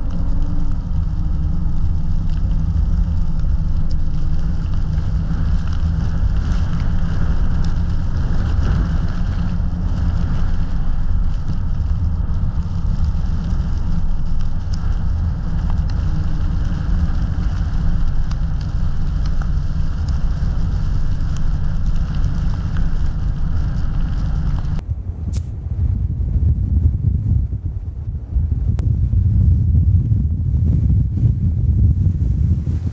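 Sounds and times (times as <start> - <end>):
car tyres road noise: 0.0 - 32.9.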